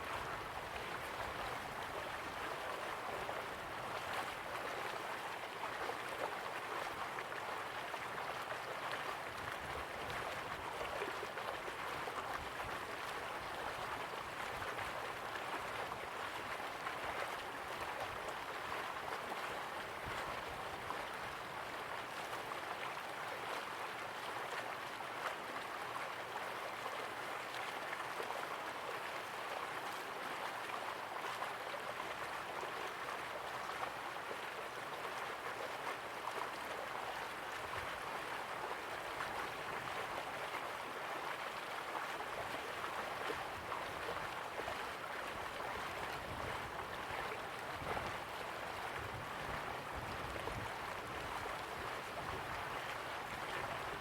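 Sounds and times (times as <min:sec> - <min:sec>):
river water flowing and gurgling: 0:00.0 - 0:54.0.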